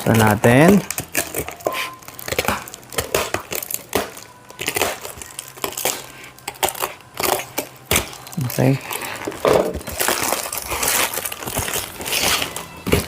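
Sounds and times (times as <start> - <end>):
package wrapping crinkling: 0.0 - 13.0.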